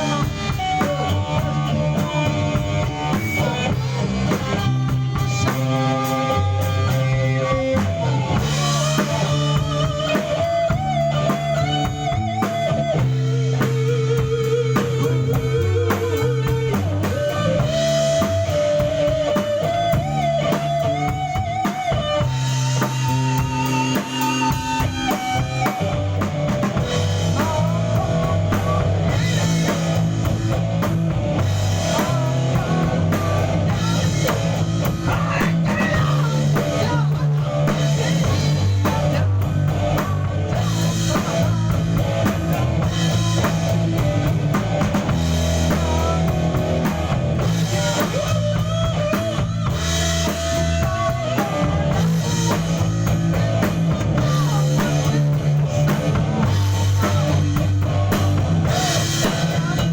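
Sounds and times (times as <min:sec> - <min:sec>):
bass line: 0:00.0 - 0:59.9
drum kit: 0:00.0 - 0:59.9
guitars: 0:00.0 - 0:59.9
rock band playing: 0:00.0 - 0:59.9.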